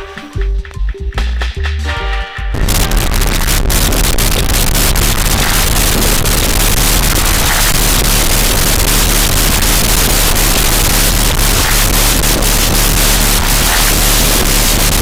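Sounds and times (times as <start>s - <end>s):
crackling clicks: 2.6s - 15.0s
static hiss: 2.6s - 15.0s.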